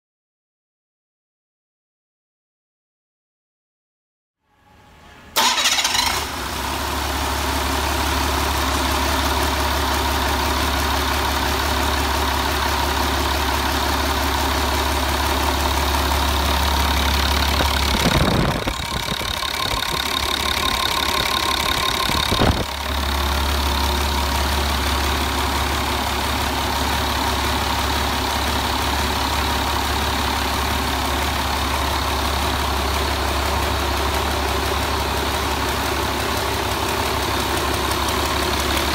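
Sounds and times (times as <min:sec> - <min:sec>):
diesel engine idling: 0:05.4 - 0:38.9.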